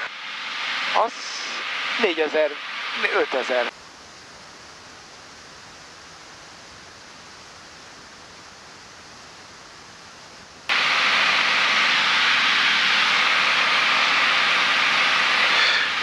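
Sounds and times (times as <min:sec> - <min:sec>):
faint steady hiss: 0:00.0 - 0:16.0
light aircraft engine in cruise: 0:00.0 - 0:16.0.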